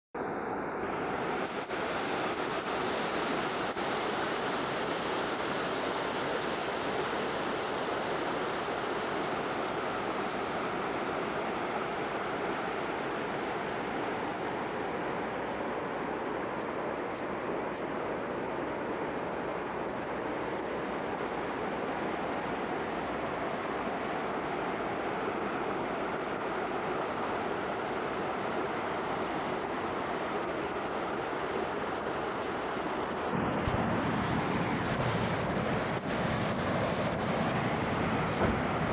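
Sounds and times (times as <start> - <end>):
river rushing: 0.2 - 38.9.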